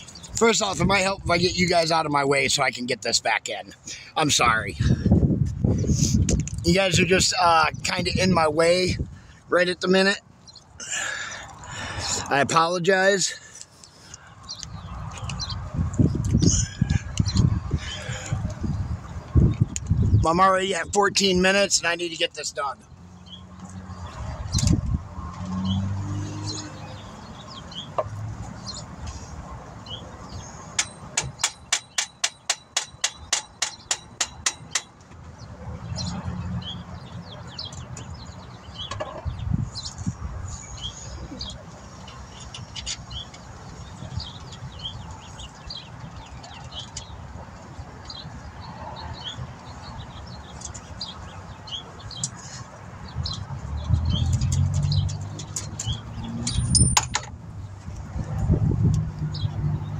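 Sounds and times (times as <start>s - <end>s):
small birds chirping: 5.7s - 24.9s, 25.5s - 57.0s.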